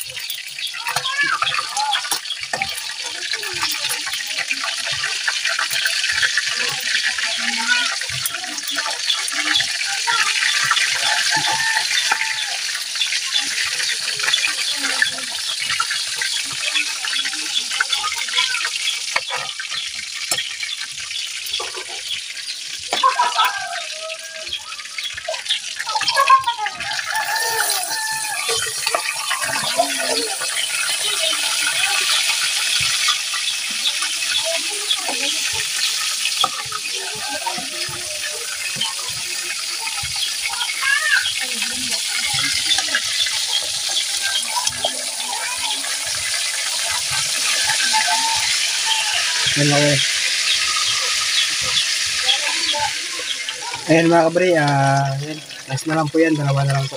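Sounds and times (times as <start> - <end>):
fish sizzling in hot oil: 0.0 - 56.9.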